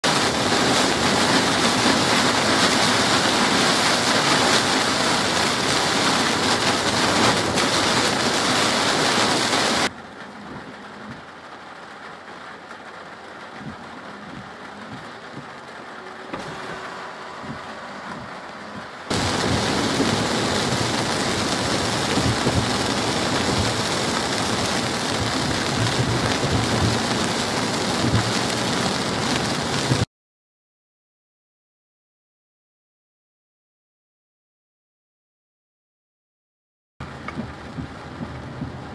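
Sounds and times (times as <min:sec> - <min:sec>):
heavy rain downpour: 0:00.0 - 0:30.1, 0:37.0 - 0:38.9
traffic on wet road: 0:00.0 - 0:30.1, 0:37.0 - 0:38.9.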